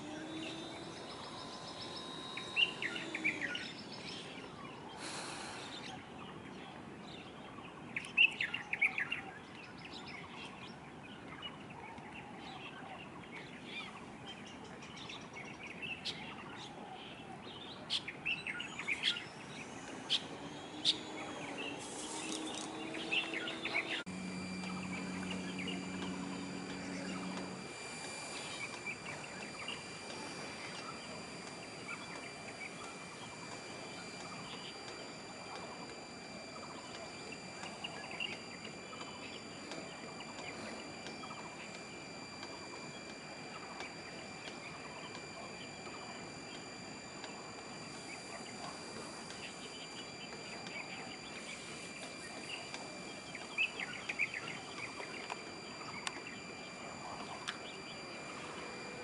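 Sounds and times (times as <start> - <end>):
low steady hum: 0.0 - 59.0
small birds chirping: 0.0 - 59.0.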